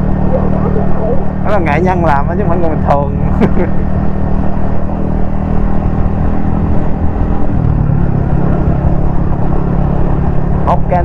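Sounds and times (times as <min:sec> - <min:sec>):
motorcycle engine cruising: 0:00.0 - 0:11.0
road rumble: 0:00.0 - 0:11.0.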